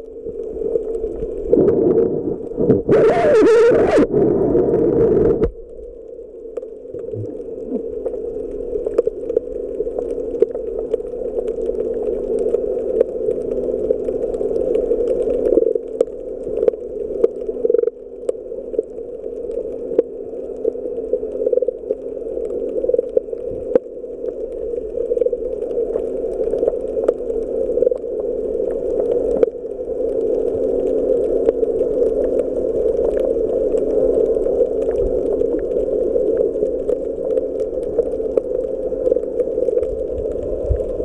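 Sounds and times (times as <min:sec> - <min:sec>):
muffled underwater hum: 0:00.0 - 0:41.0
sharp clicks and crackles: 0:00.0 - 0:41.0.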